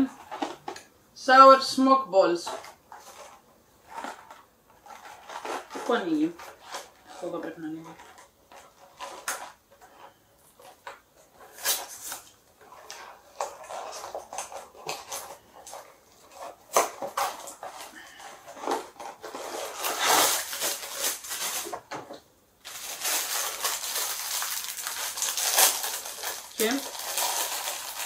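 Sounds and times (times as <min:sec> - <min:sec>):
plastic packaging crinkling: 0:02.4 - 0:28.0.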